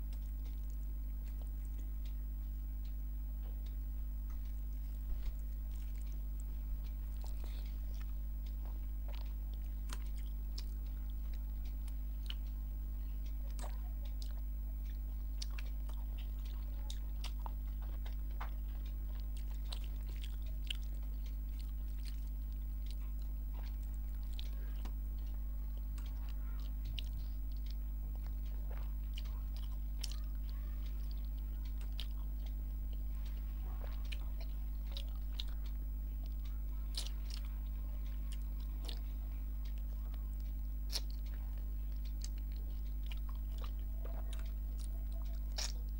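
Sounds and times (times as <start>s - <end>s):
steady low hum: 0.0s - 45.9s
wet chewing mouth clicks: 3.4s - 45.9s.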